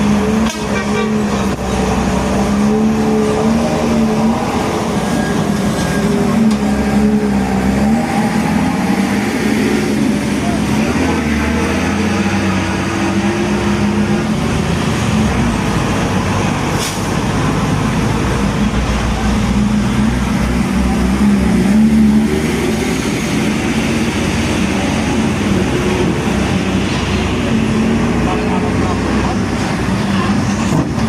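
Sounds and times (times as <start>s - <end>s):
diesel truck engines droning: 0.0s - 31.0s.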